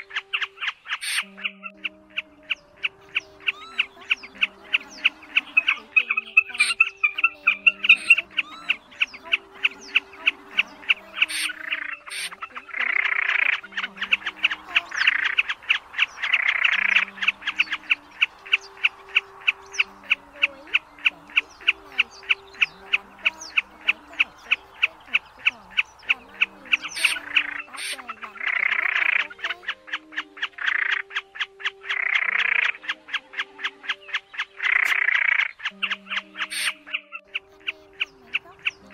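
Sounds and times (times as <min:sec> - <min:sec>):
snipe chipping calls: 0:00.0 - 0:38.9
soft background music: 0:00.0 - 0:38.9.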